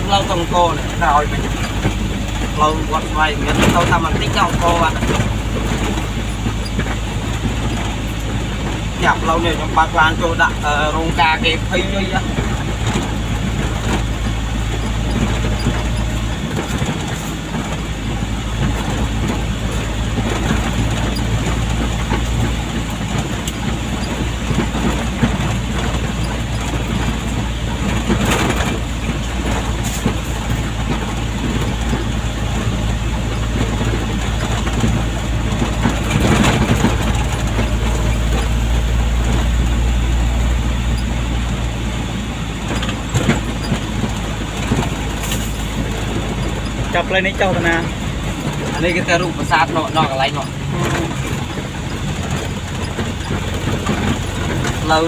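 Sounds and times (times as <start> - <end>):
engine hum: 0.0 - 55.0
knocks and rattles over bumps: 0.0 - 55.0.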